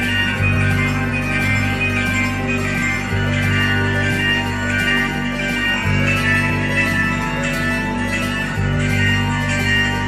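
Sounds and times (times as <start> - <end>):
held chords: 0.0 - 10.0.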